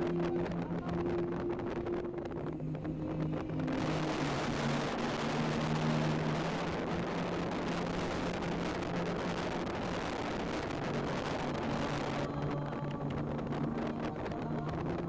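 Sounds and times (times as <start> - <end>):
low sustained tones: 0.0 - 15.0.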